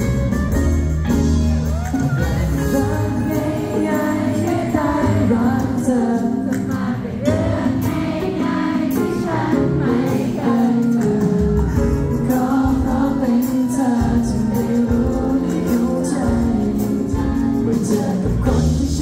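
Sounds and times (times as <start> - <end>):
live pop band with singing: 0.0 - 19.0.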